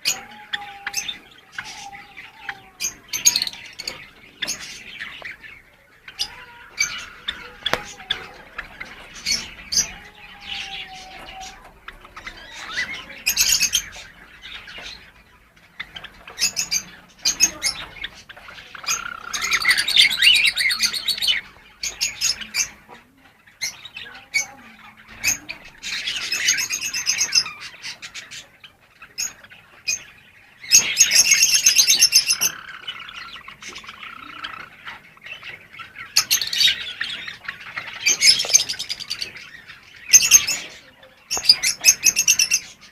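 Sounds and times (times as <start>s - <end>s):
finches chirping and singing: 0.0s - 42.9s
rapid clicking bird calls: 2.4s - 42.9s.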